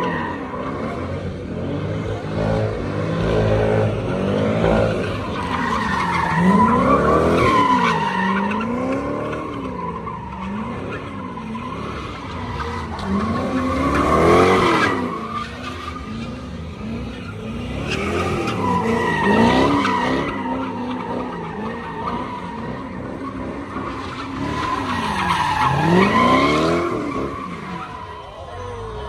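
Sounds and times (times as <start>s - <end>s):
car engine revving: 0.0s - 29.0s
tyre squeal: 4.6s - 29.0s.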